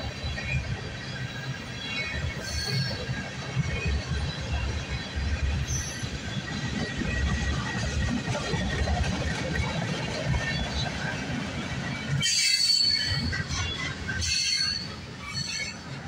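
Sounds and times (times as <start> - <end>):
train wheels rumbling on rails: 0.0 - 16.0
wheels squealing against rails: 0.0 - 16.0.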